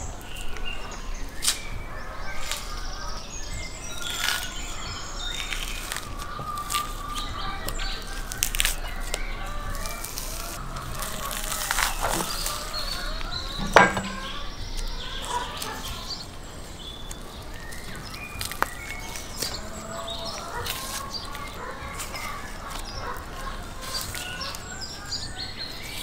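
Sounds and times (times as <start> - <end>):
birds chirping: 0.0 - 26.0
fat tearing crackles: 3.8 - 16.2, 17.0 - 26.0.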